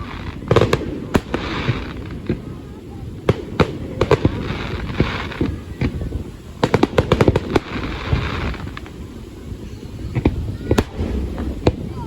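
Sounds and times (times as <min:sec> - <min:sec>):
fireworks banging and crackling: 0:00.0 - 0:12.0
fireworks hissing: 0:00.0 - 0:12.0.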